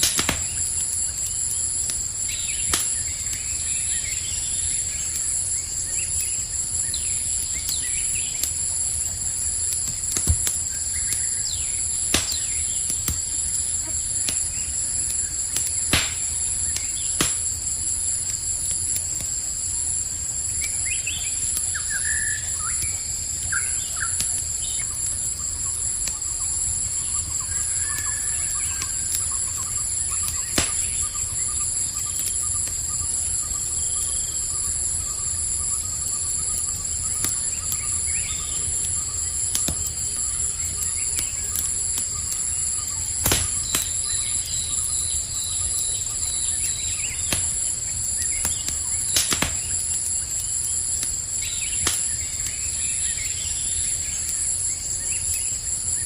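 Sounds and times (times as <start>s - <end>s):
campfire crackling and popping: 0.0s - 56.0s
crickets chirring: 0.0s - 56.0s.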